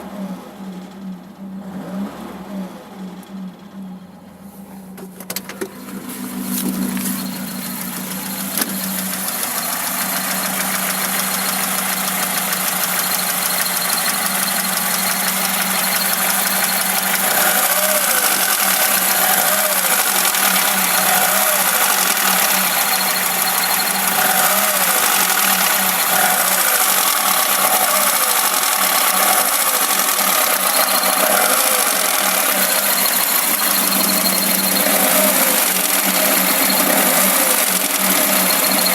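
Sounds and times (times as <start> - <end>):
car engine revving and idling: 0.0 - 38.9
engine knocking: 5.0 - 38.9.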